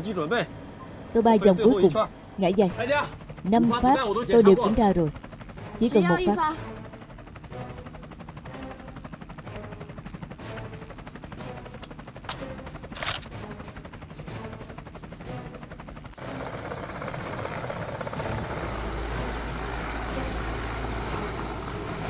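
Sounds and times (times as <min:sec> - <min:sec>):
helicopter rotor chopping: 0:00.0 - 0:22.0.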